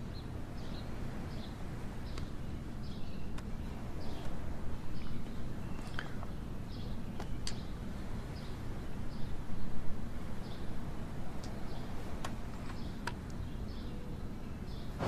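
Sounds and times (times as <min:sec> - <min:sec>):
low ambient rumble: 0:00.0 - 0:15.0.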